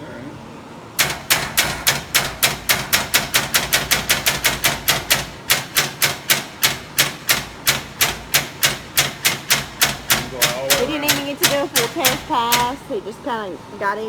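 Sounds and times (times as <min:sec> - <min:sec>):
sharp knocks: 0:01.0 - 0:12.9.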